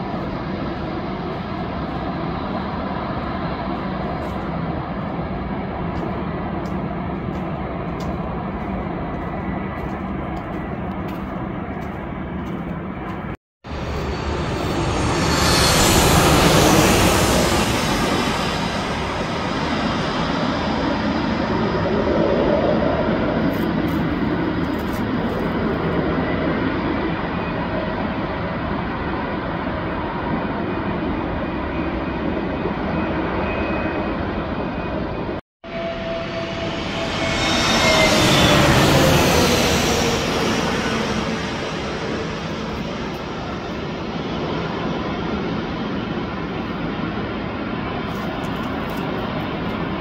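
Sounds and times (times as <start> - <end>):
jet engines roaring: 0.0 - 50.0.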